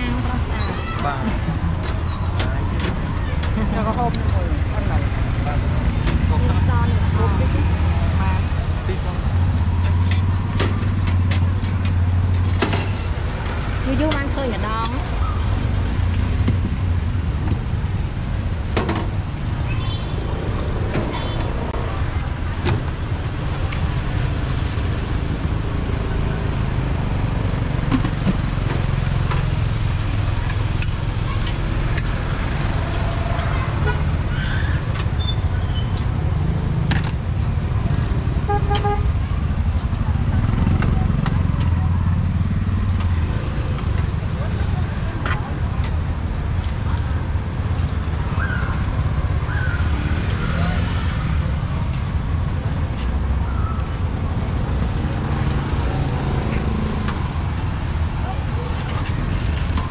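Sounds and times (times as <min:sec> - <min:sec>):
vehicle engines rumbling: 0:00.0 - 0:59.9.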